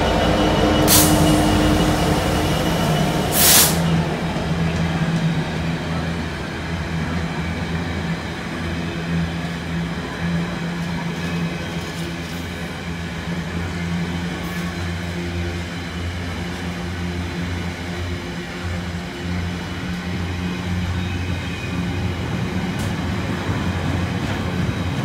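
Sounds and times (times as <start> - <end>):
freight train wheels rumbling on rails: 0.0 - 25.0.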